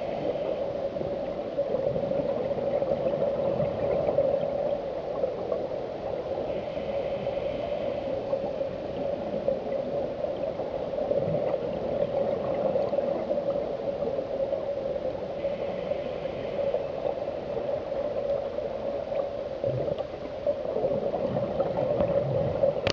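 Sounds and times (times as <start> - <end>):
faint hiss: 0.0 - 21.1
muffled water noise: 0.0 - 22.9
steady underwater hum: 0.0 - 22.9.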